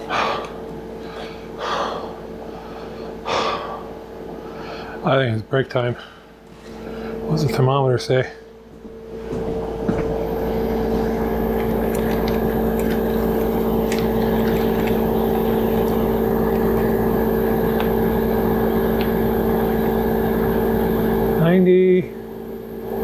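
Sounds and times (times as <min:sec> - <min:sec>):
machine motor hum: 0:00.0 - 0:23.0.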